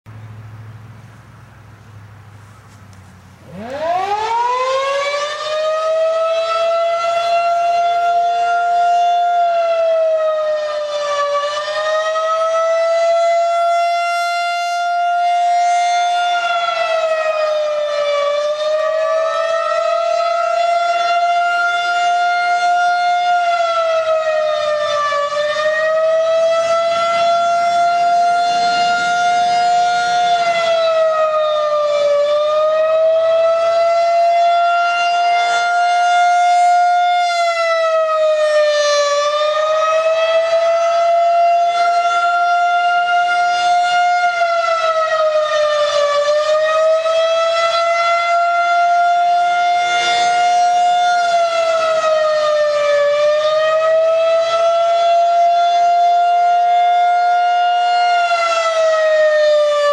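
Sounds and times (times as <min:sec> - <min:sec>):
warning siren steady tone: 0:01.8 - 0:59.9.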